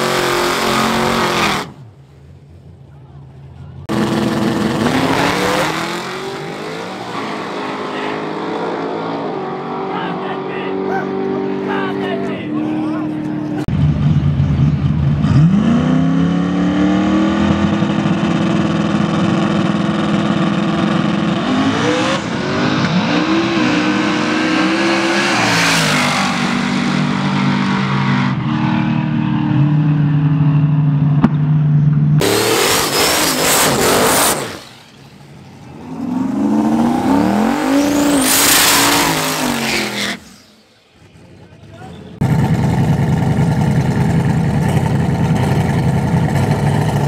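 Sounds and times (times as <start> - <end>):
race car engines revving: 0.0 - 2.7, 3.3 - 47.0.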